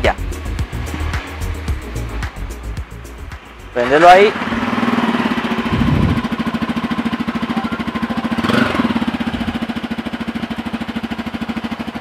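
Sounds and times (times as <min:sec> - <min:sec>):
motorcycle engine idling: 0:00.1 - 0:12.0.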